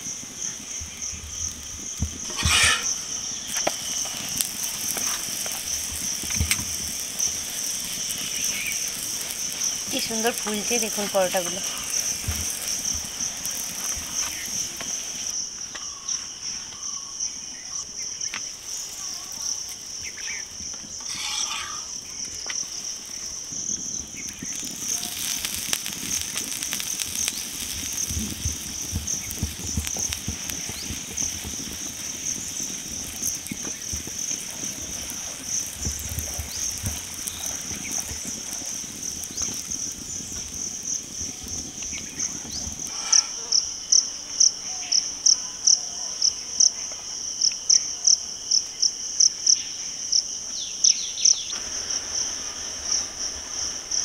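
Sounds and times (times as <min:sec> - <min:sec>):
flatbread crackling in pan: 0:00.0 - 0:17.0, 0:17.7 - 0:45.1, 0:50.3 - 0:54.0
insects chirring: 0:00.0 - 0:54.0.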